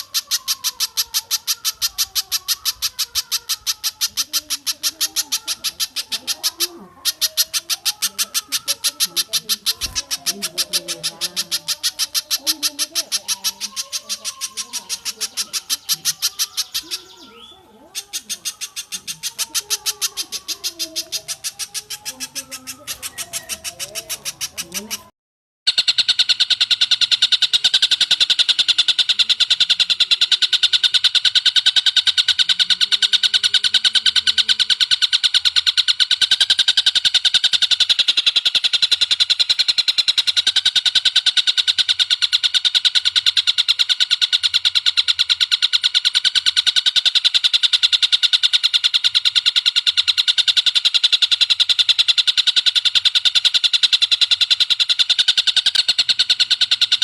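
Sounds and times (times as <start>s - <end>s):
songbird fast rattling call: 0.0s - 25.1s, 25.7s - 57.0s.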